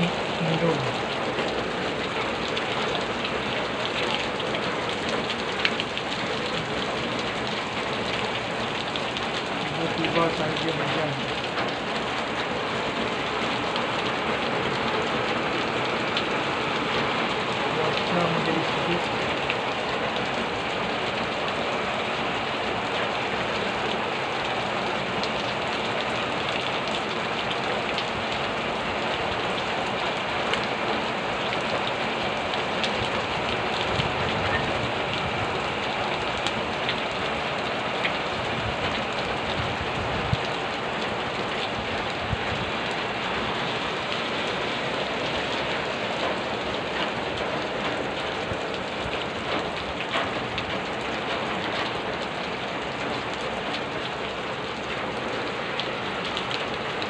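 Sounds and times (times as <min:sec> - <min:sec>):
heavy rain falling: 0:00.0 - 0:57.0
raindrops ticking nearby: 0:00.0 - 0:57.0.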